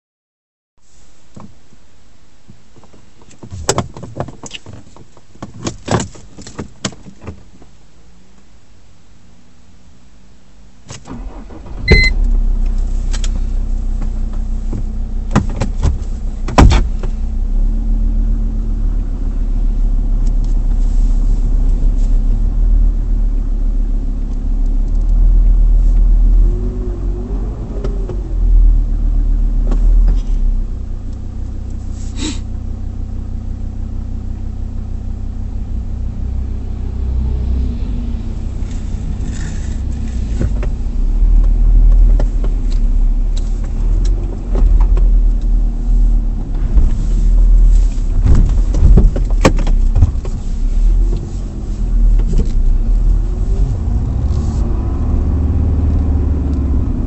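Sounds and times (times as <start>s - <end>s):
diesel engine starting and idling: 10.9s - 57.0s.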